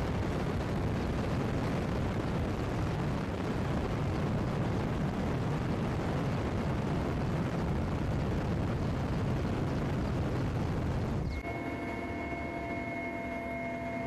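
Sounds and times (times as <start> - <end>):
helicopter turbine and rotor rumble: 0.0 - 14.0.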